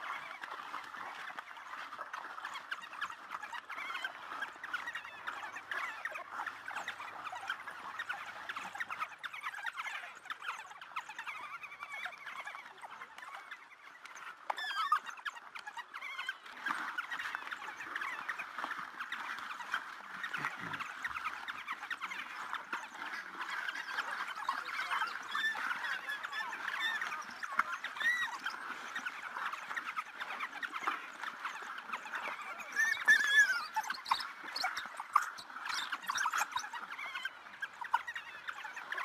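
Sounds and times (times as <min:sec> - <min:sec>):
wild dogs twittering and squeaking: 0:00.0 - 0:39.0.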